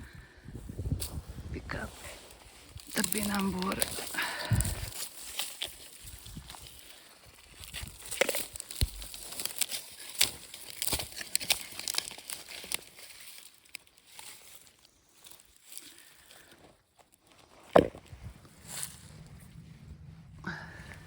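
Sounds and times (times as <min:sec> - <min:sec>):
dry plant material crackling: 0:01.0 - 0:21.0.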